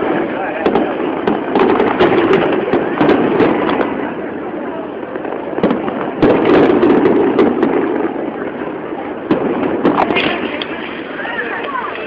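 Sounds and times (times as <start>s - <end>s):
fireworks bang: 0.0s - 11.3s
fireworks crackling and popping: 0.0s - 12.0s.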